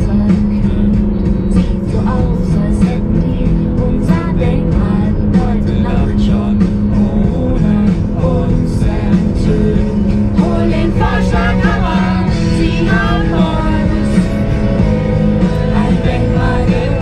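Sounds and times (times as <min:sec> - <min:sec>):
rock guitar: 0:00.0 - 0:17.0.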